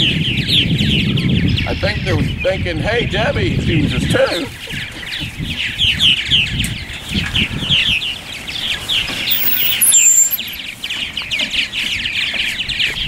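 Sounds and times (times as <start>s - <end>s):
birds chattering in a colony: 0.1s - 13.0s.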